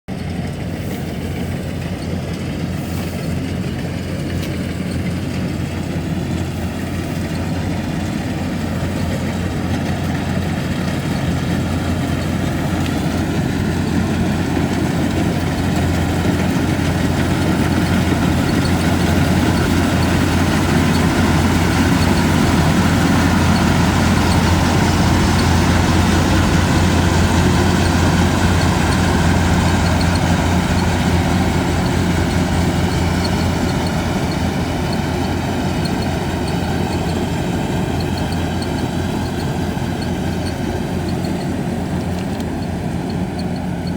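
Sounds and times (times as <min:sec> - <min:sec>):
combine harvester engine humming: 0:00.1 - 0:43.9.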